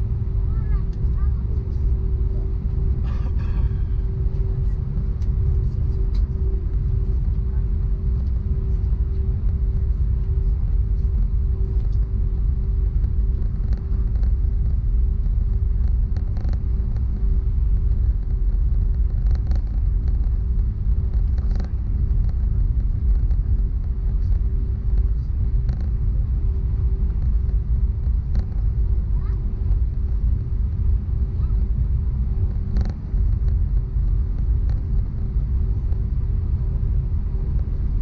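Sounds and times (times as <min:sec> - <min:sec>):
jet engines idling: 0:00.0 - 0:38.0.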